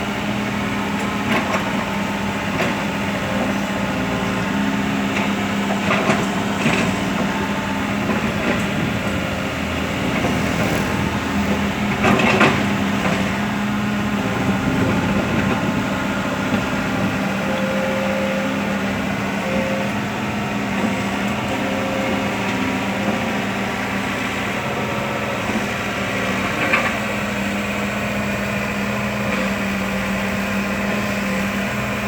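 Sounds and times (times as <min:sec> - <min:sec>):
excavator diesel engine running: 0:00.0 - 0:32.0
excavator knocks and clatters digging: 0:00.3 - 0:32.0.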